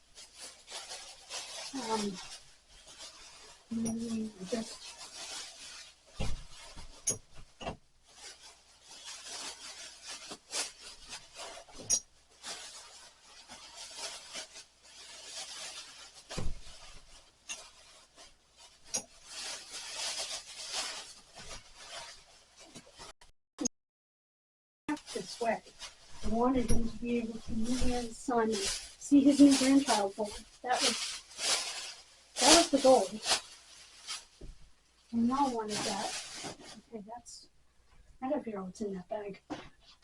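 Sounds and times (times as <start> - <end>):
rustling and rubbing of objects: 0.0 - 23.2, 24.9 - 40.0.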